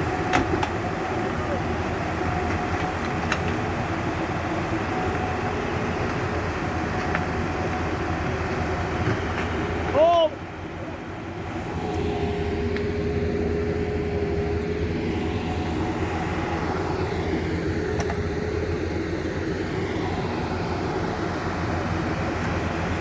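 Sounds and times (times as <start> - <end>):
excavator diesel engine: 0.0 - 23.0
steady whine: 0.0 - 23.0.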